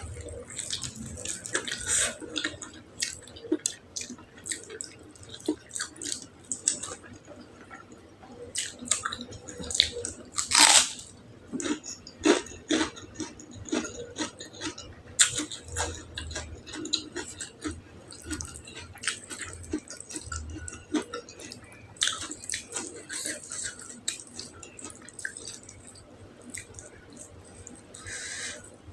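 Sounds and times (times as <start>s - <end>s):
person chewing food: 0.0s - 28.8s.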